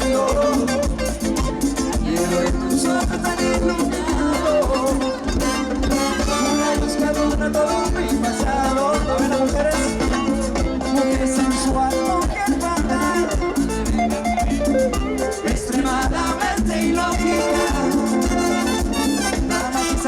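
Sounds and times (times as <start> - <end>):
latin band instrumental music: 0.0 - 20.0
maracas: 0.0 - 20.0
percussion beat: 0.0 - 20.0.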